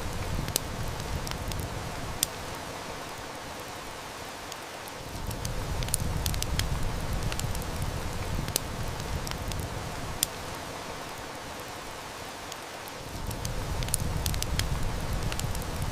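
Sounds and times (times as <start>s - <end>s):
heavy rain hiss: 0.0s - 15.9s
wood fire crackling: 0.0s - 15.9s.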